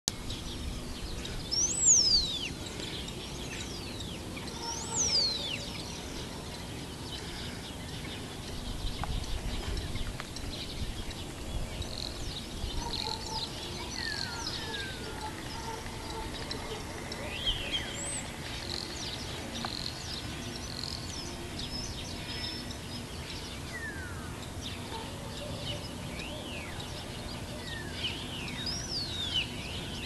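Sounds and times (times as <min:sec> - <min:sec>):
wild birds calling: 0:00.2 - 0:30.0.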